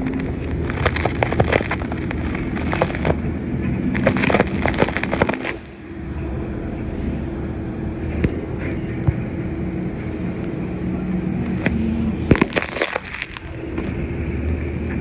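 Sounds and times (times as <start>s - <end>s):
engine humming with low drone: 0.0s - 15.0s.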